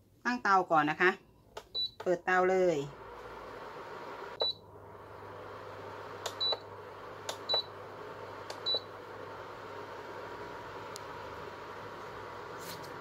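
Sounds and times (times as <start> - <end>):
cooktop fan whir: 2.4 - 13.0.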